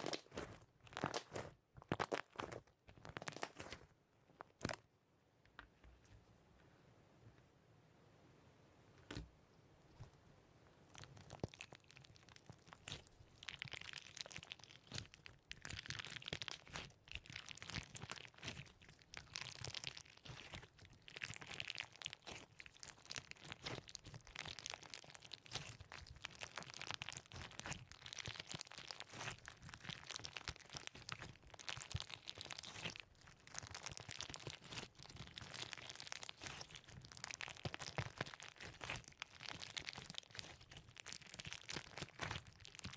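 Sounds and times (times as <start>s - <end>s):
crunchy slime crackling: 0.0s - 3.8s, 10.9s - 42.9s.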